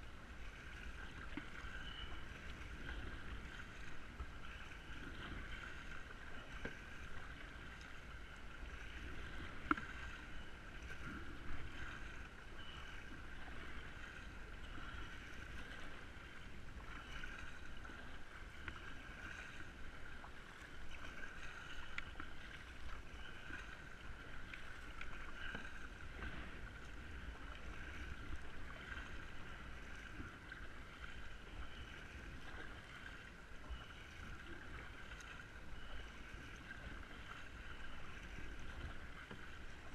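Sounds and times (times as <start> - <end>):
paddle splashing water: 0.0 - 39.9.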